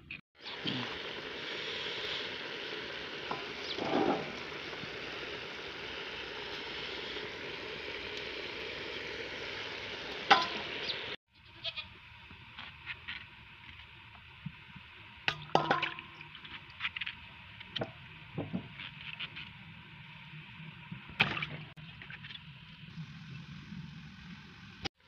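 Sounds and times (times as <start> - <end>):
stew boiling and sizzling: 0.0 - 25.0.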